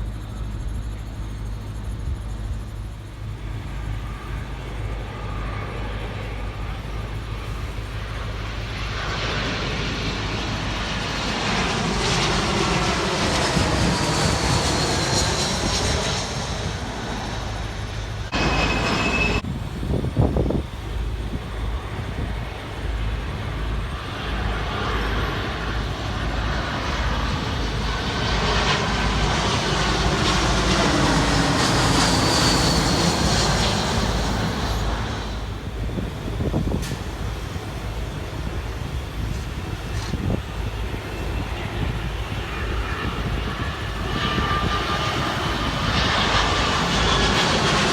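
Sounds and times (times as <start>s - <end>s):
jet airliner engine whine: 0.0s - 47.9s.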